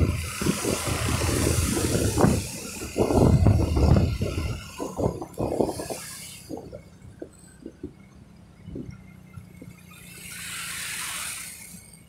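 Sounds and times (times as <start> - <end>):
wind buffeting microphone: 0.0 - 9.7
road noise: 0.0 - 12.0.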